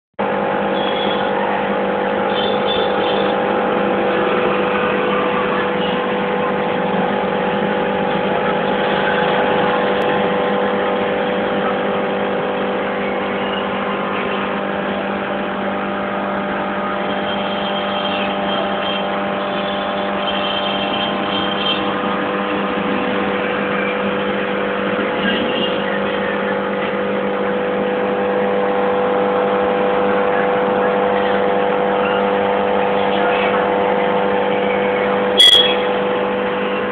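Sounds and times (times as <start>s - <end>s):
aquarium air pump humming: 0.2s - 36.9s.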